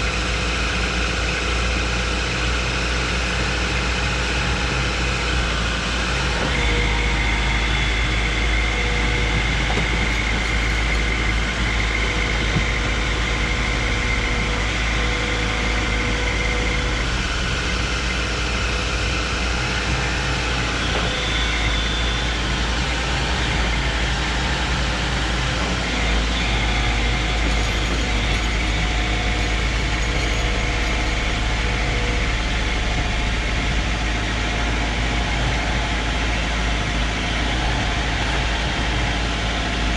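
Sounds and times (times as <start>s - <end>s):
excavator diesel engines running: 0.0s - 39.9s
faint whine: 0.0s - 39.9s.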